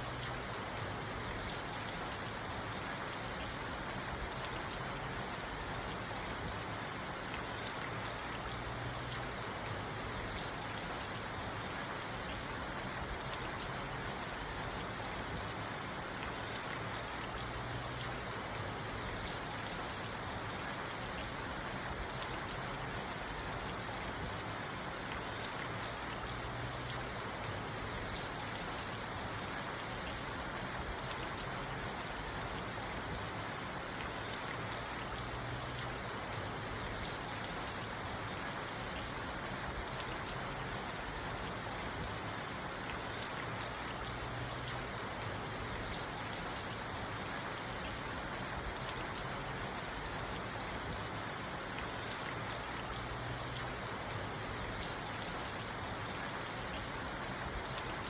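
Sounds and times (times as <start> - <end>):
rain on a car: 0.0 - 58.0.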